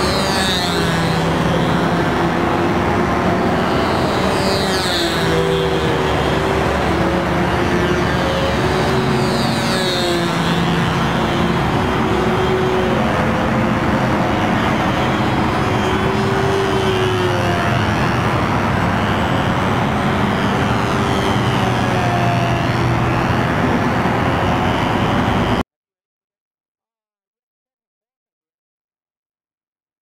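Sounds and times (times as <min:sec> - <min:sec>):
model airplane engine buzzing: 0:00.0 - 0:25.6.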